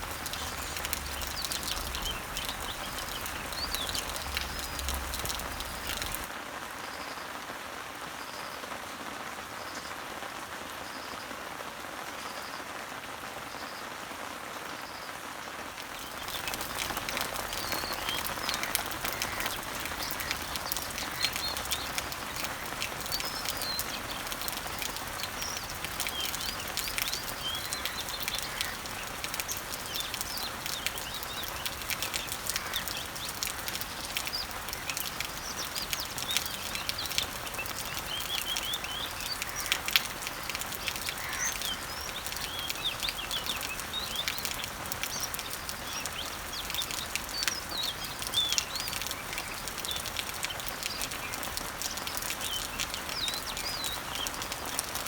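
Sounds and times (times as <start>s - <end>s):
birds chirping: 0.0s - 6.3s, 15.8s - 55.0s
rain falling on leaves and trees: 0.0s - 55.0s.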